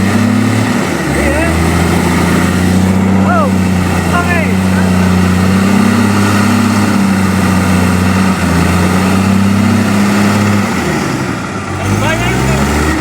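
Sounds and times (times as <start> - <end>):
heavy diesel engine under load: 0.0 - 13.0.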